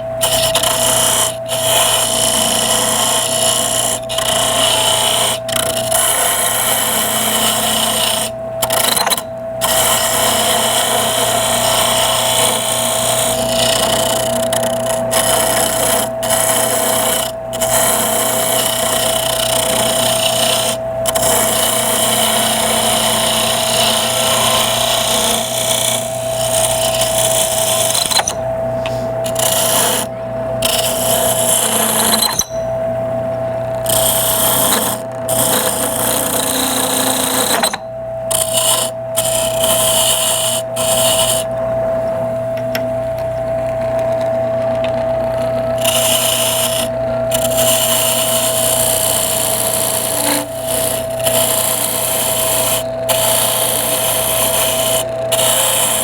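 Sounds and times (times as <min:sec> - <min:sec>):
turning tool scraping wood: 0:00.0 - 0:32.8, 0:33.6 - 0:56.0
wood lathe humming: 0:00.0 - 0:56.0.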